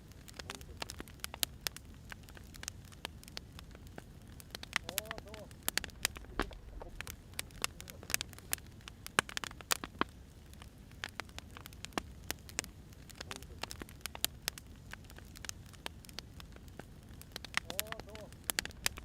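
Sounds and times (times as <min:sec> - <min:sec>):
firewood crackling and popping: 0:00.0 - 0:19.0
low rumble of fire: 0:00.0 - 0:19.0.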